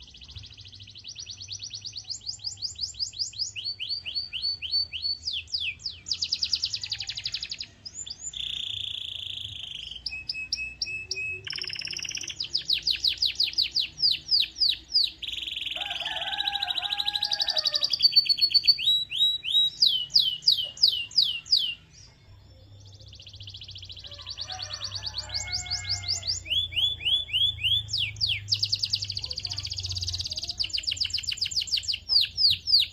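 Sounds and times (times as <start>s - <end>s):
canary singing trills: 0.0s - 32.9s.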